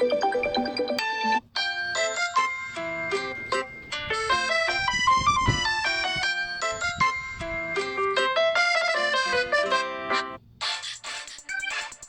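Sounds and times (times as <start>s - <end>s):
phone ringtone melody: 0.0s - 10.4s.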